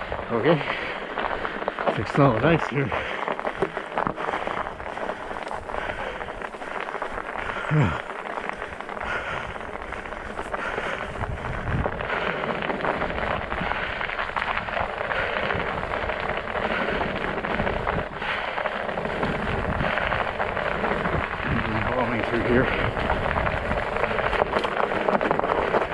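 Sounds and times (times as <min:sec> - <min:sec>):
bike tyres crunching on ice: 0:00.0 - 0:25.9.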